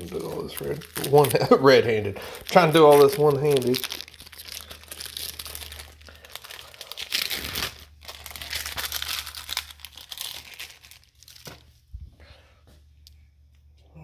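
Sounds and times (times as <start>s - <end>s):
plastic wrapper crinkling: 0.0s - 11.9s
low steady hum: 0.0s - 14.0s.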